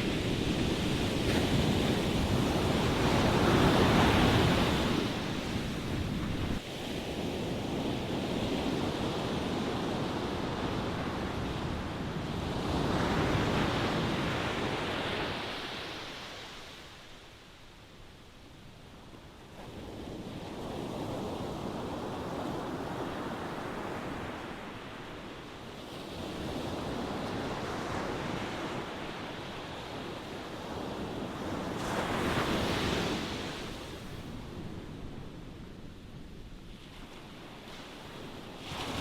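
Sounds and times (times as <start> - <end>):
ocean waves washing onto shore: 0.0 - 17.8, 18.5 - 39.0.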